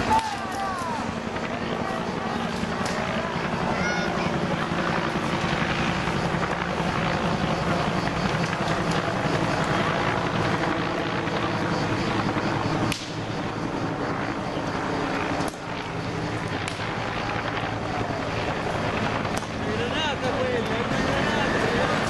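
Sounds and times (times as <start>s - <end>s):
aircraft engine drone: 0.0s - 22.0s.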